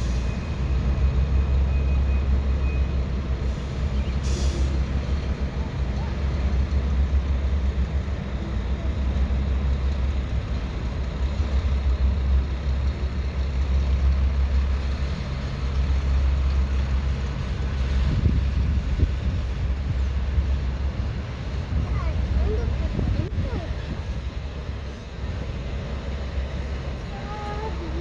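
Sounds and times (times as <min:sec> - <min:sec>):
diesel truck idling: 0:00.0 - 0:18.2, 0:19.2 - 0:28.0.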